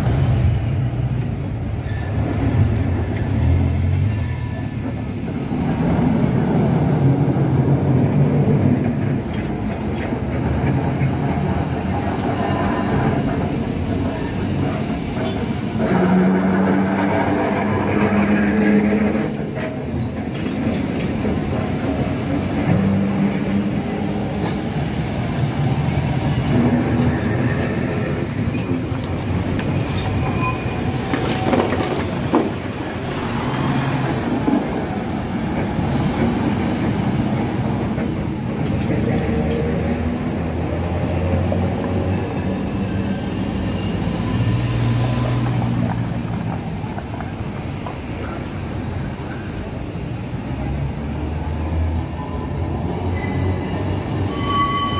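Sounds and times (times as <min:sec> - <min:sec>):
city traffic: 0:00.0 - 0:54.9
trams rolling on rails: 0:00.0 - 0:54.9.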